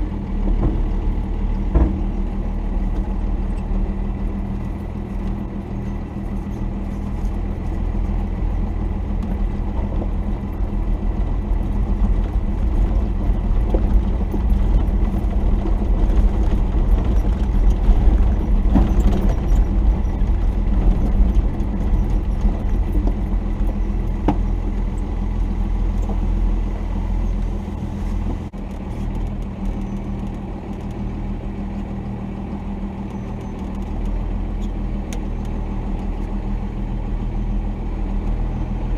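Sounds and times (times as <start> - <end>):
diesel engine running at low revs: 0.0 - 38.9.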